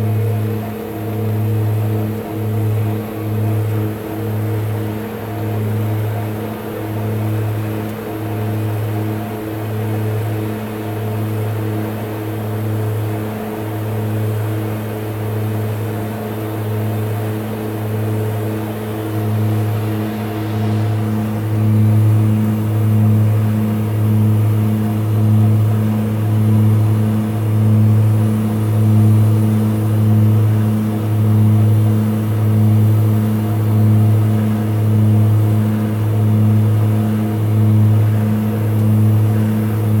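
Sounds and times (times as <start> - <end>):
throbbing propeller drone: 0.0 - 40.0.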